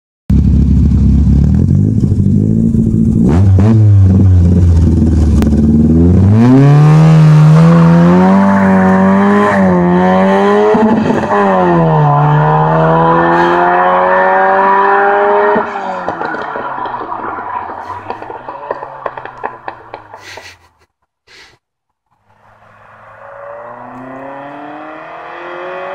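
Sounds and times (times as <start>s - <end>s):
car engine revving: 0.4s - 20.4s, 22.2s - 25.9s.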